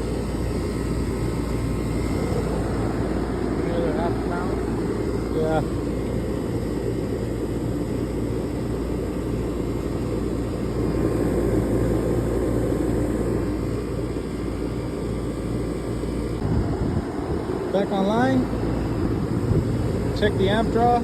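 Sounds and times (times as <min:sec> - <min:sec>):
compressor humming: 0:00.0 - 0:21.0
condenser fan whooshing: 0:00.0 - 0:21.0.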